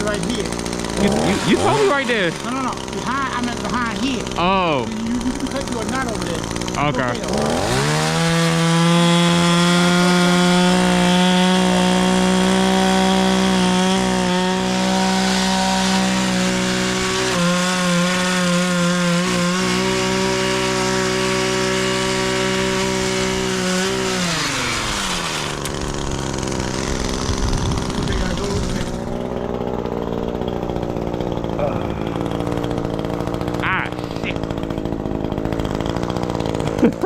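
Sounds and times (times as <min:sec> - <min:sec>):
chainsaw cutting through wood: 0:00.0 - 0:37.0.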